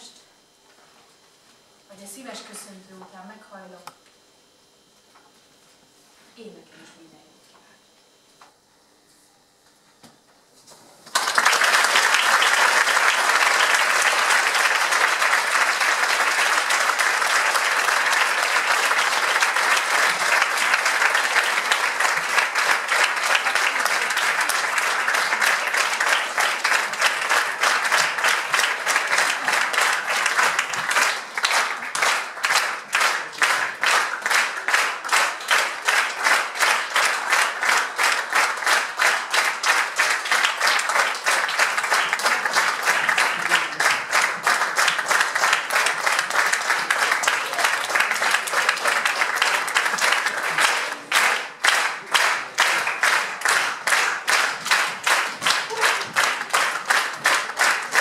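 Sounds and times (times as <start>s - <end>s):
audience applause: 11.1s - 58.0s
rhythmic clapping in unison: 11.1s - 58.0s.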